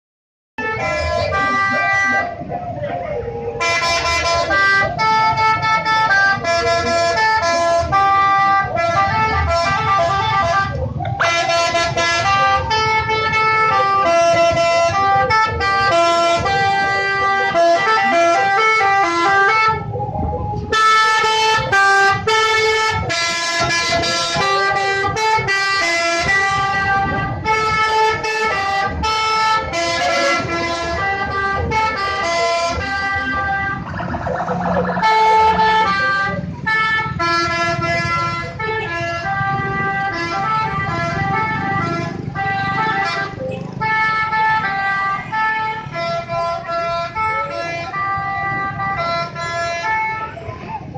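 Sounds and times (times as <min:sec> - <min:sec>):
musical bus air horn melody: 0:00.6 - 0:02.5, 0:03.6 - 0:20.0, 0:20.7 - 0:50.9.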